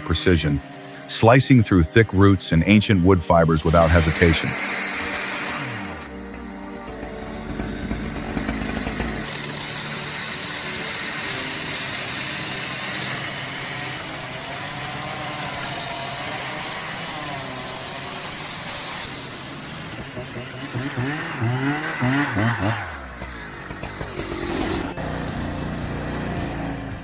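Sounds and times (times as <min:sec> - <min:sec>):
chainsaw running: 0:00.0 - 0:27.0.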